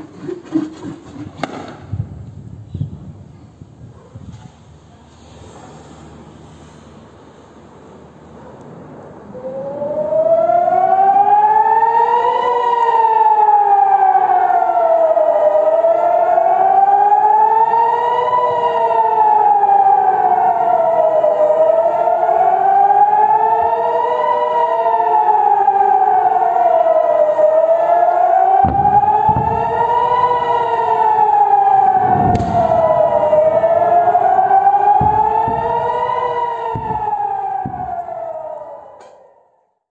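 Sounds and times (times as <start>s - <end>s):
warning sirens wailing: 6.1s - 39.6s.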